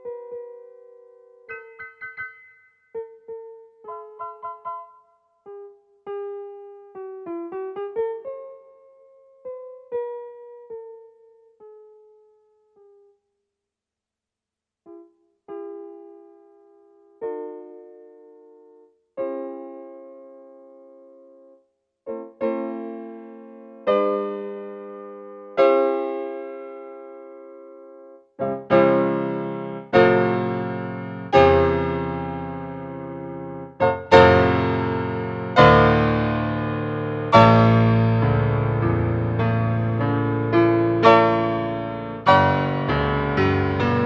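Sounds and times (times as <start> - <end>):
piano playing slow chords: 0.0 - 13.2, 14.9 - 44.0.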